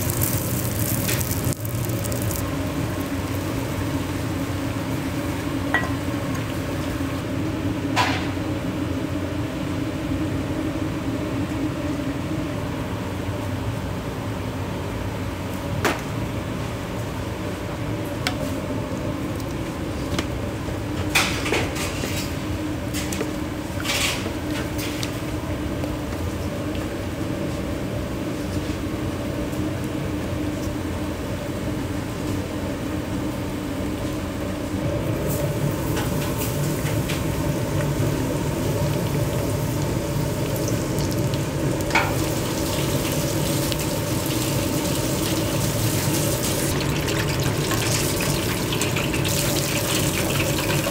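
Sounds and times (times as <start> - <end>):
kitchen hum: 0.0 - 13.4, 14.8 - 50.9.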